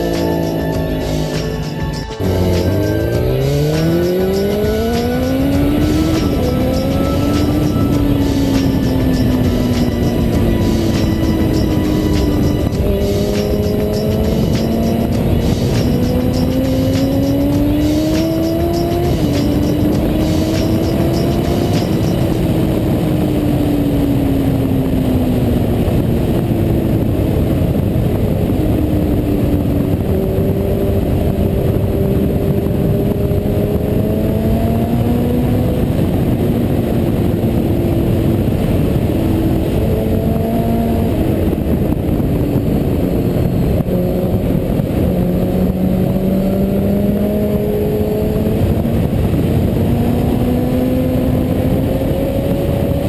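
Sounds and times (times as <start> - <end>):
motorcycle engine revving: 0.0 - 53.0
wind rush on microphone: 2.2 - 53.0.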